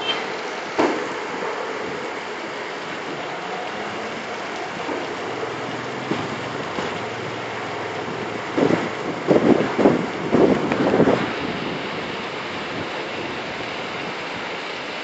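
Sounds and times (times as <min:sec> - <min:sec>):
rain and runoff water rushing: 0:00.0 - 0:15.0.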